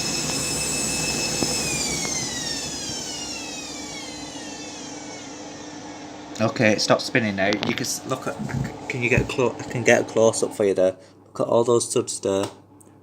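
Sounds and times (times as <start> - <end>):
washing machine spinning down: 0.0 - 10.8.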